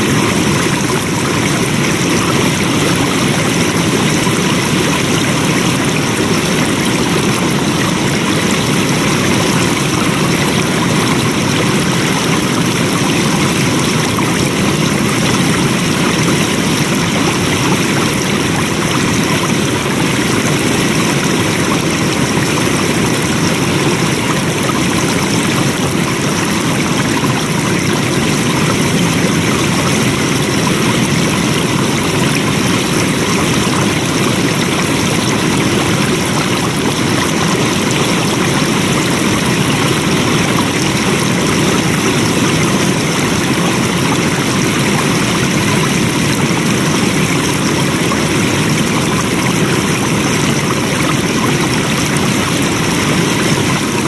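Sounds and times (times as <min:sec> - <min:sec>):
water flowing steadily: 0:00.0 - 0:54.0.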